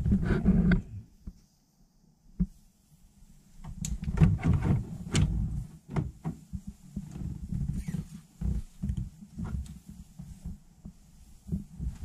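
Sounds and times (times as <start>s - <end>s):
hands rubbing and scraping plastic: 0.0s - 1.4s, 3.6s - 12.0s.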